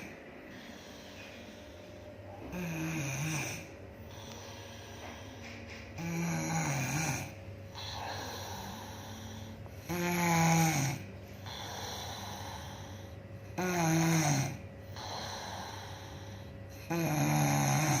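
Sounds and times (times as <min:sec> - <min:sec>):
woman snoring: 0:00.0 - 0:01.8, 0:02.4 - 0:18.0
quiet breathing: 0:00.0 - 0:18.0.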